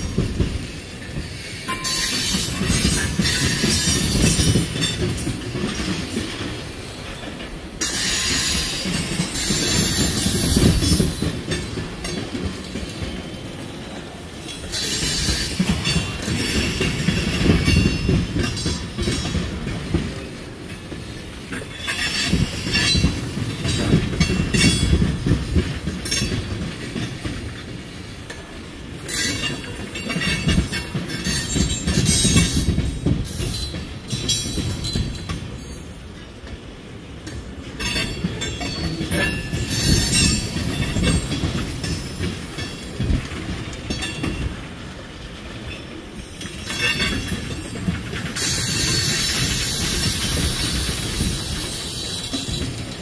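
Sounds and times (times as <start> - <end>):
train wheels rumbling on rail: 0.0 - 53.0
wheels clicking over rail joints: 0.0 - 53.0.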